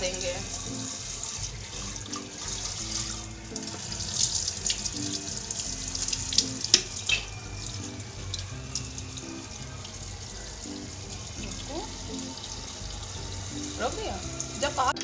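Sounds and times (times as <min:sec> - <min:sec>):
tap water running: 0:00.0 - 0:15.0
water splashing into steel sink: 0:00.0 - 0:15.0.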